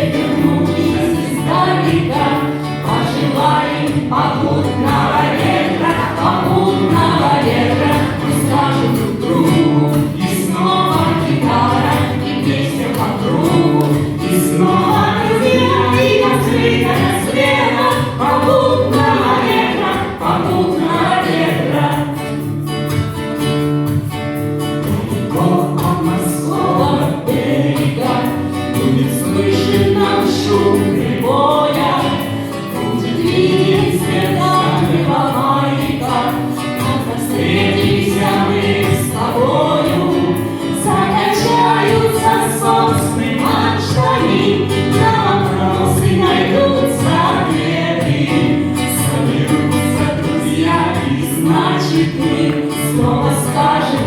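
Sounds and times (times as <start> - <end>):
choir singing: 0.0 - 23.0, 24.8 - 54.0
instrumental accompaniment: 0.0 - 54.0.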